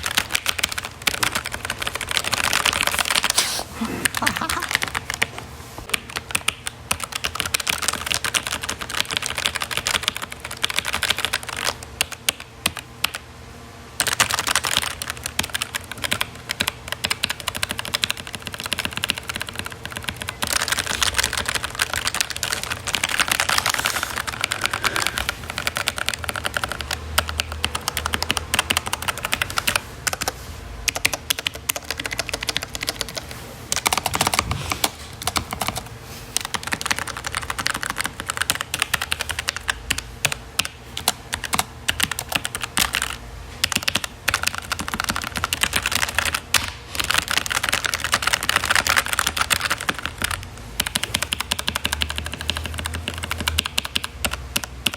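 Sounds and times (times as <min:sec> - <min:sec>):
computer keyboard typing: 0:00.0 - 0:03.4, 0:04.0 - 0:13.2, 0:14.0 - 0:54.9.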